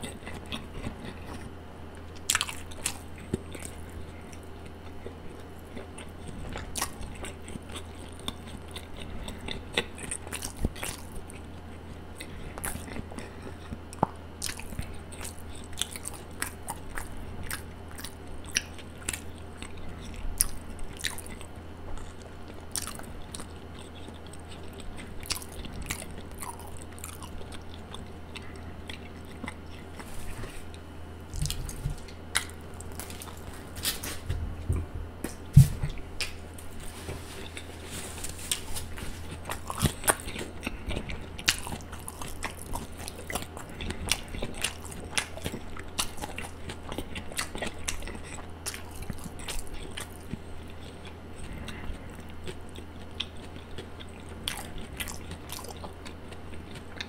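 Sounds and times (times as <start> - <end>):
person chewing crunchy food: 0.0 - 57.0
steady low hum: 0.0 - 57.0.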